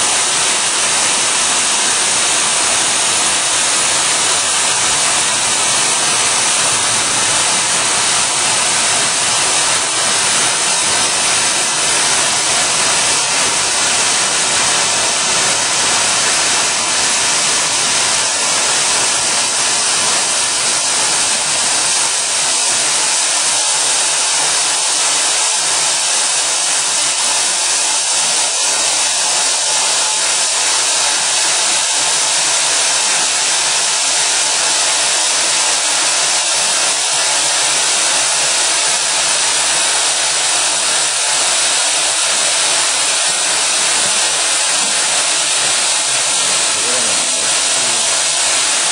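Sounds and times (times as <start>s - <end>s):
welding machine hissing rush: 0.0s - 48.9s.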